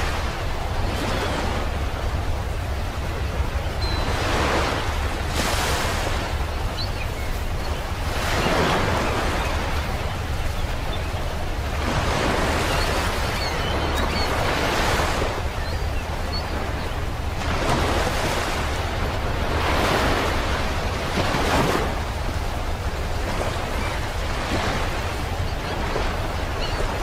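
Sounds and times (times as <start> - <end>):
sea waves breaking on beach: 0.0 - 27.0.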